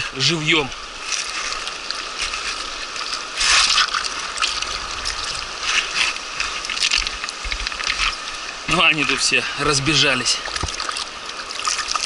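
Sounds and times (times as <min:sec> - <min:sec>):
river water rushing over gravel: 0:00.0 - 0:12.0
water splashes: 0:00.0 - 0:12.0.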